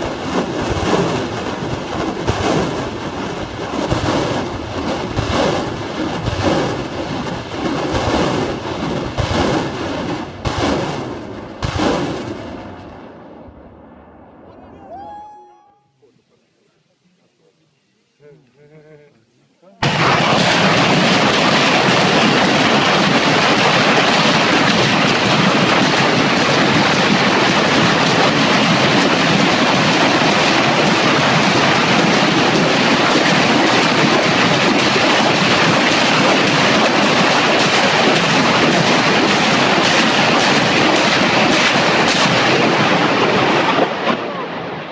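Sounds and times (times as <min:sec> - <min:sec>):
sharp cracks: 0:00.0 - 0:14.4, 0:19.8 - 0:44.4
roar of rockets launching: 0:00.0 - 0:15.0, 0:19.8 - 0:44.9.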